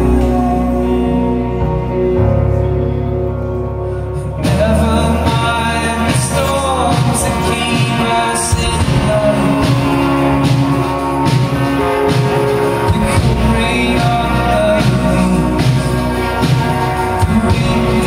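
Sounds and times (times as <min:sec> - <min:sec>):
drums: 0:00.0 - 0:18.0
live rock band playing: 0:00.0 - 0:18.0
person singing: 0:00.0 - 0:18.0.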